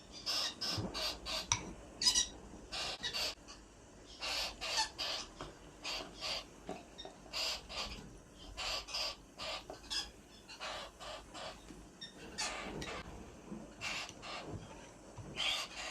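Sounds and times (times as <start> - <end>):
parakeet harsh raspy calls: 0.2 - 3.5, 4.1 - 6.6, 7.3 - 13.0, 13.8 - 14.5, 15.4 - 15.9.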